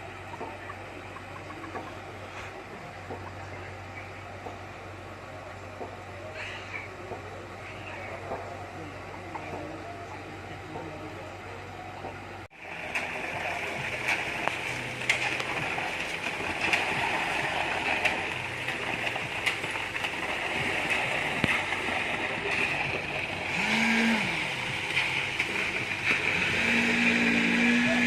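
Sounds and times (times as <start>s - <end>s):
concrete pump truck running: 0.0s - 28.0s.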